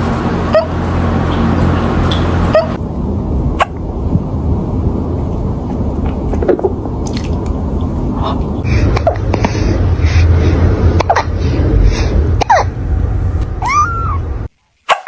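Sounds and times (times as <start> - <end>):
low rumble: 0.0 - 14.5.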